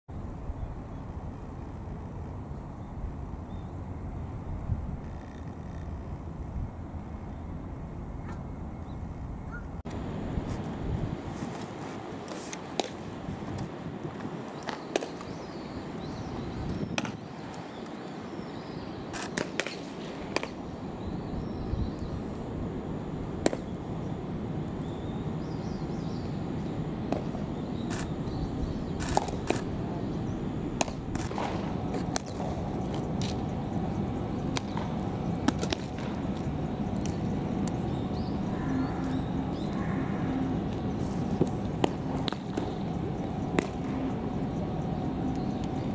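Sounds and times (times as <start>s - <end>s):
steady background noise: 0.1s - 45.9s.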